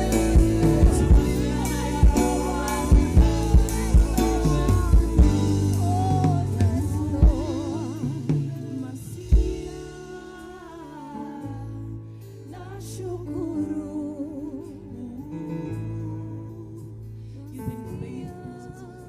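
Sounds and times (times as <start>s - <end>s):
band playing bass and chords: 0.0s - 19.0s
person singing: 0.0s - 19.0s.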